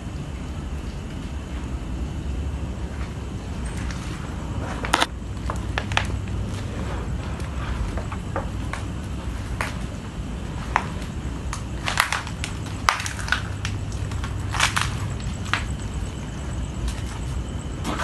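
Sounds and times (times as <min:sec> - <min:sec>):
steady low hum: 0:00.0 - 0:18.0
footsteps crunching over rubble: 0:02.8 - 0:18.0.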